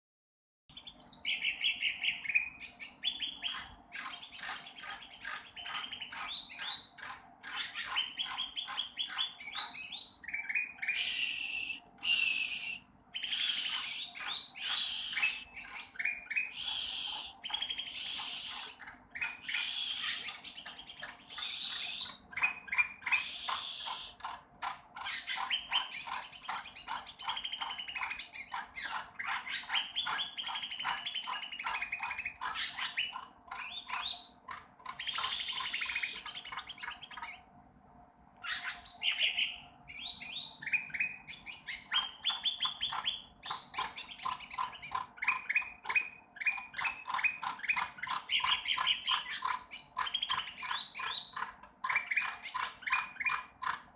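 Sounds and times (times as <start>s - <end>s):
bird chirping and squawking: 0.7s - 24.3s, 24.9s - 37.5s, 38.4s - 53.8s.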